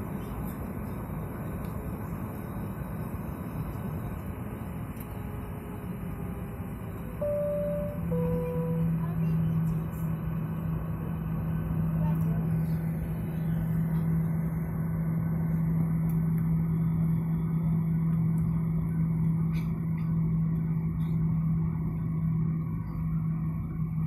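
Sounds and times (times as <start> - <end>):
jet engines idling in cabin: 0.0 - 24.0.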